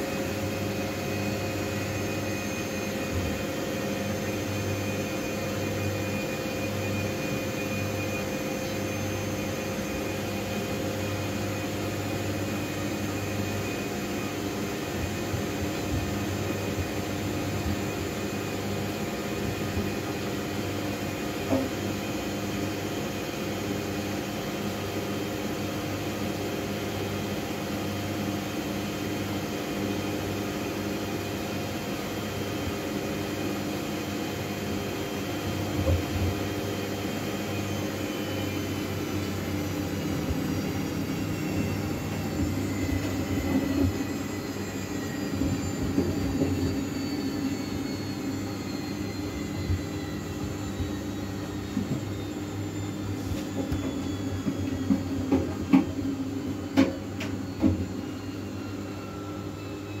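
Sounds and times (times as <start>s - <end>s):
washing machine motor whine: 0.0s - 60.0s.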